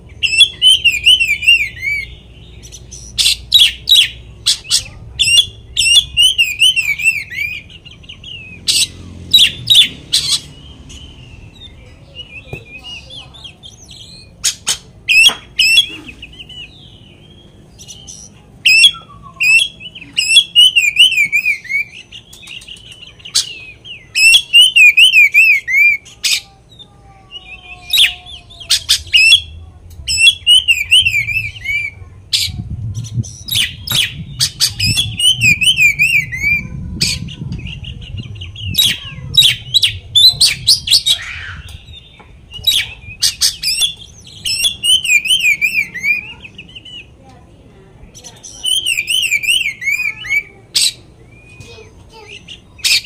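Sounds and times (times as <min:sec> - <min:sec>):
songbird singing with trills: 0:00.0 - 0:47.2, 0:48.0 - 0:53.0.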